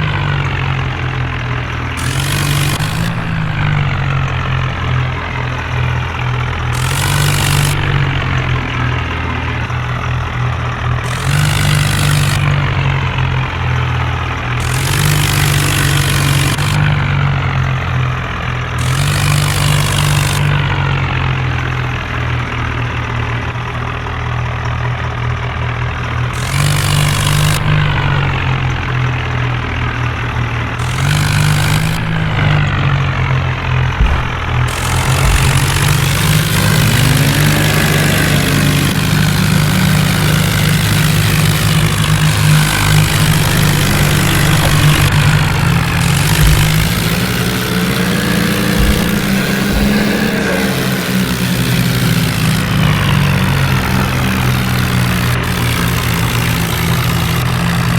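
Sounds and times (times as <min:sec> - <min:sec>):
tractor diesel engine revving: 0:00.0 - 0:57.9.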